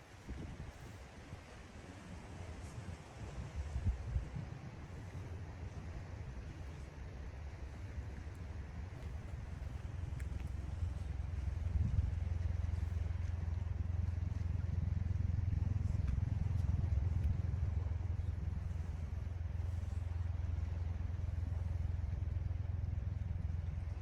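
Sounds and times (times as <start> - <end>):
faint sea waves: 0.0 - 24.0
wind rumble on microphone: 0.0 - 24.0.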